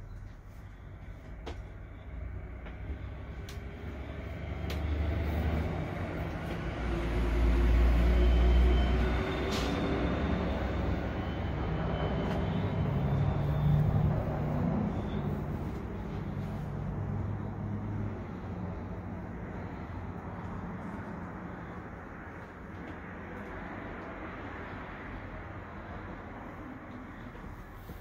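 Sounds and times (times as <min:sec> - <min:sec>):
large vehicle engine rumbling: 0:00.0 - 0:28.0.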